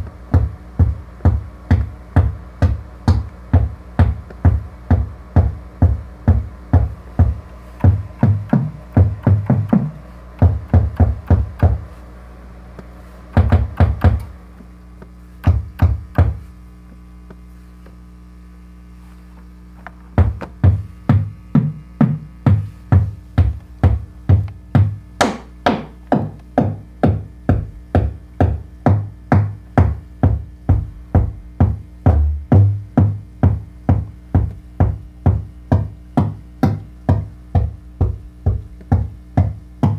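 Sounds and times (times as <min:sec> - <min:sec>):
synthesizer kick drum hits: 0:00.0 - 0:12.0, 0:13.3 - 0:14.4, 0:15.4 - 0:16.5, 0:20.2 - 0:39.9.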